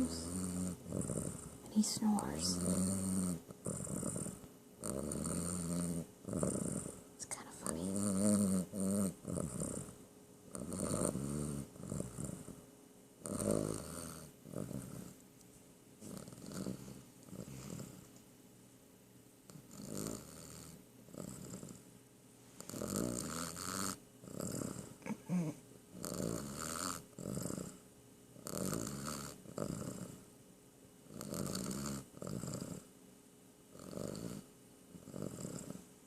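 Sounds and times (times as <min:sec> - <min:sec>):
cat snoring: 0:00.0 - 0:12.6, 0:13.2 - 0:15.2, 0:16.0 - 0:18.0, 0:19.5 - 0:21.8, 0:22.6 - 0:27.8, 0:28.4 - 0:30.3, 0:31.1 - 0:32.9, 0:33.7 - 0:35.9.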